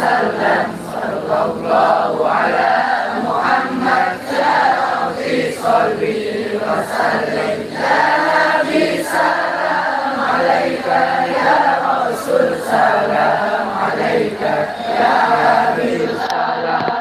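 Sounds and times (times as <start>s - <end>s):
men singing in unison over loudspeakers: 0.0s - 17.0s.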